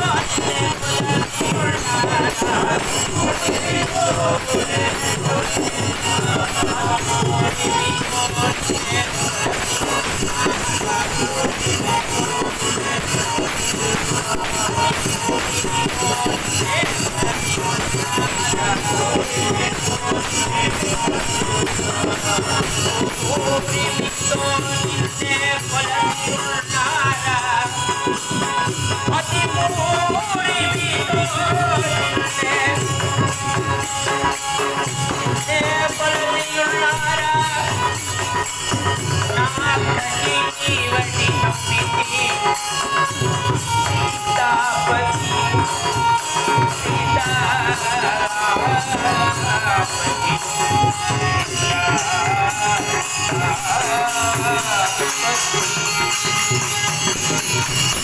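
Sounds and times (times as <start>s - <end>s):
group singing: 0.0s - 56.2s
hand cymbals jingling: 0.0s - 58.0s
harmonium: 0.0s - 58.0s.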